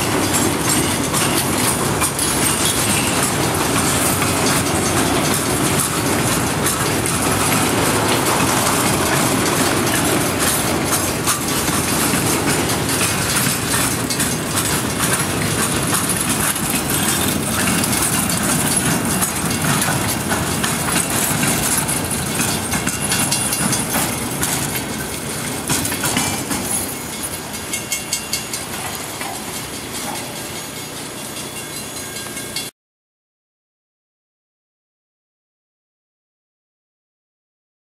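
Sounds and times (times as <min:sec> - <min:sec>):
freight train wheels rumbling: 0:00.0 - 0:32.7
wheels clicking over rail joints: 0:00.0 - 0:32.7.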